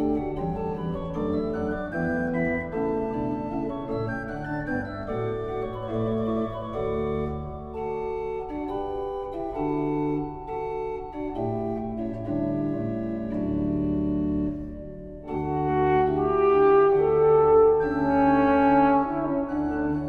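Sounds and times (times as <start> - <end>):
pipe organ playing held chords: 0.0 - 20.0.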